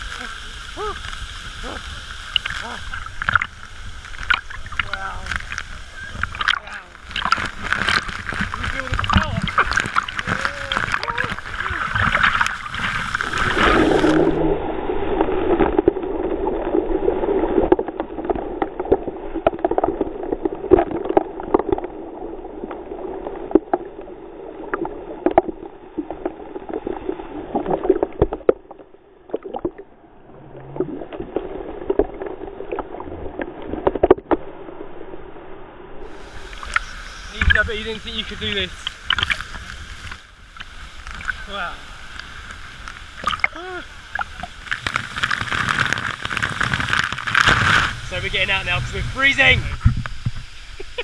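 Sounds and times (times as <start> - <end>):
deep muffled gurgling: 0.0 - 35.3, 36.0 - 51.0
water splashing and churning: 0.0 - 51.0.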